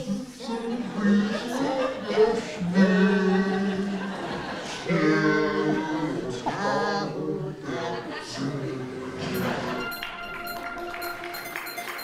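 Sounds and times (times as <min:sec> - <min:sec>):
men singing long held notes: 0:00.0 - 0:10.3.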